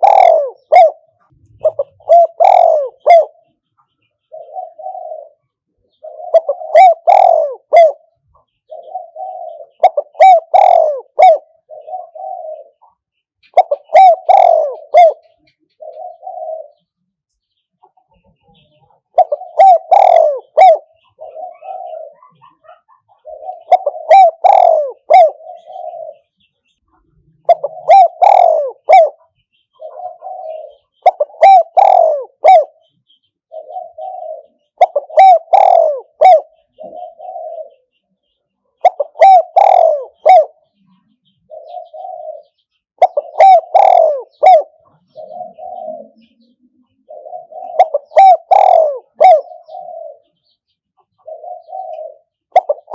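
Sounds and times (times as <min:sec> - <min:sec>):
dove cooing: 0:00.0 - 0:17.0, 0:17.8 - 0:52.9.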